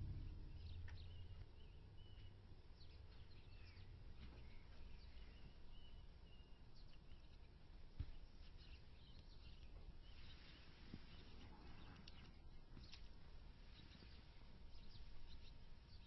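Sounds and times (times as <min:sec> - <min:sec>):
faint birds chirping: 0:00.0 - 0:16.0
low steady hum: 0:00.0 - 0:16.0.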